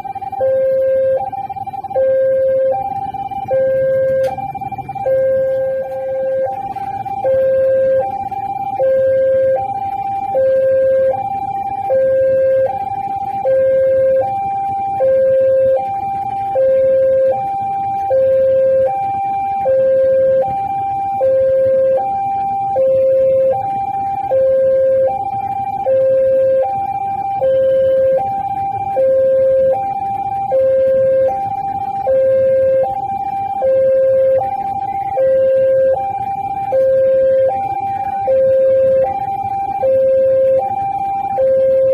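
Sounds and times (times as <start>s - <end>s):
two-tone crossing warning alarm: 0.0s - 41.9s.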